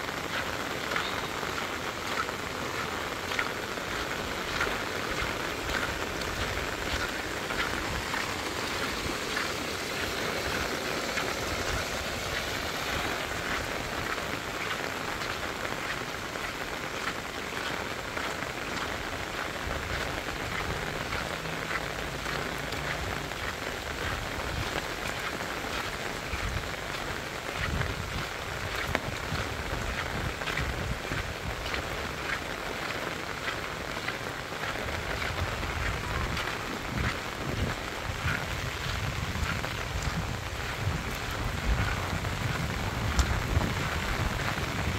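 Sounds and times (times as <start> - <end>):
heavy rain on paved road: 0.0 - 44.9.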